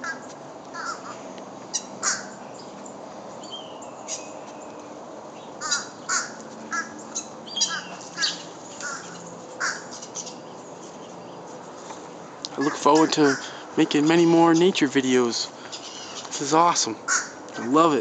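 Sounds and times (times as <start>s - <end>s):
crows calling: 0.0s - 2.8s, 3.4s - 14.8s, 15.5s - 17.8s
low background hum: 0.0s - 18.0s
small birds chirping: 0.0s - 18.0s.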